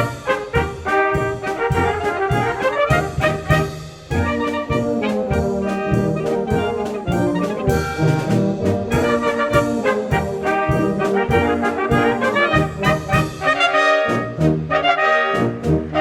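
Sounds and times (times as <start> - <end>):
brass band playing a polka: 0.0 - 16.0.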